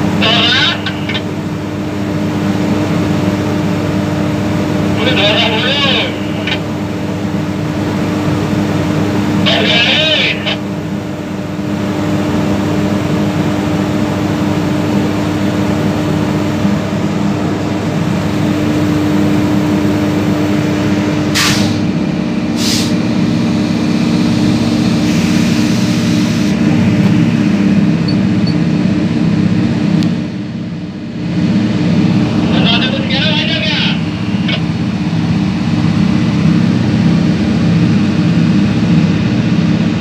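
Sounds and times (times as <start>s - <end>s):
locomotive machine hum: 0.0s - 40.0s.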